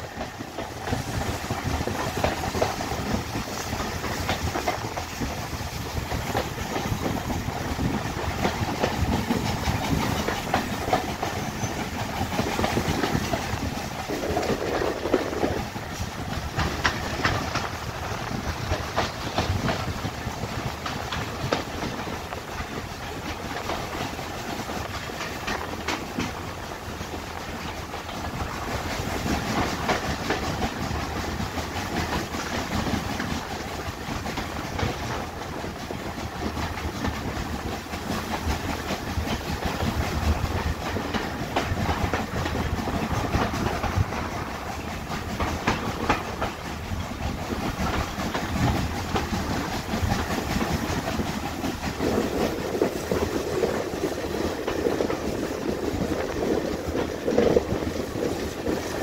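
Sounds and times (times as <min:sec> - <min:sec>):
train wind and running gear rush: 0:00.0 - 0:59.0
wheels clicking over rail joints: 0:00.0 - 0:59.0.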